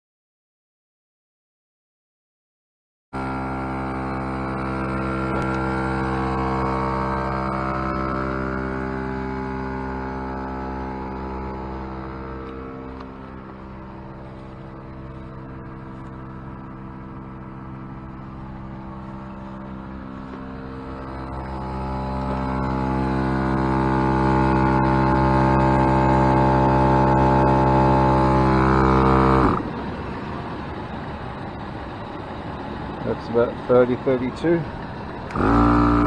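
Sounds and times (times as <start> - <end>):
air compressor running: 3.2 - 36.0.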